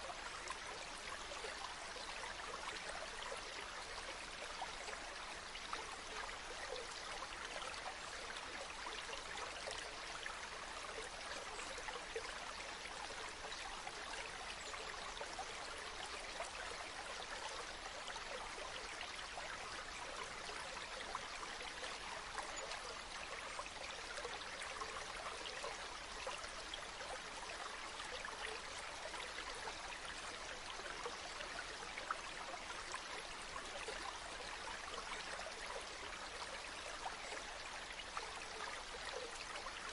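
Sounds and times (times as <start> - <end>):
water stream trickling and splashing: 0.0 - 39.9.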